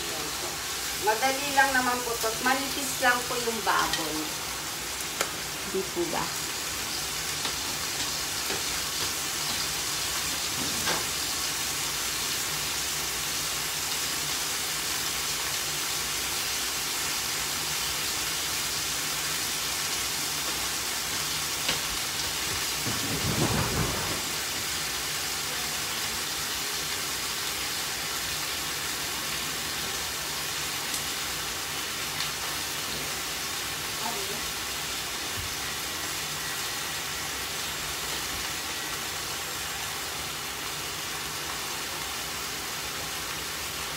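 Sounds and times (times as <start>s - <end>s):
pork sizzling in a frying pan: 0.0s - 43.9s.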